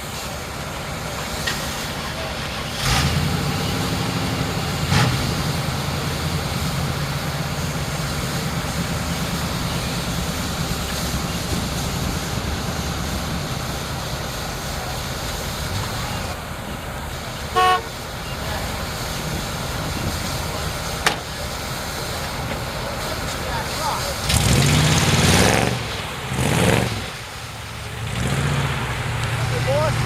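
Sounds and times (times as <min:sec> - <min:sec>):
even rushing noise: 0:00.0 - 0:30.0
truck engine at low revs: 0:00.0 - 0:30.0.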